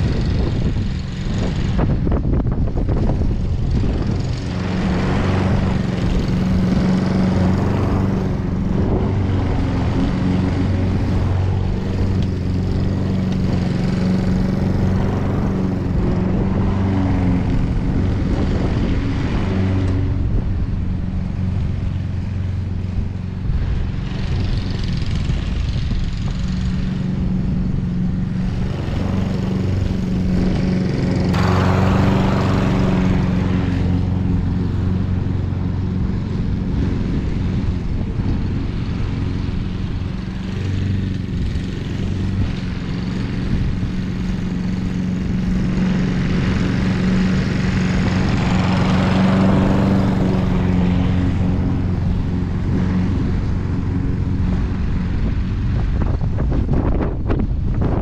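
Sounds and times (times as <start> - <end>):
lawn mower cutting grass: 0.0 - 58.0.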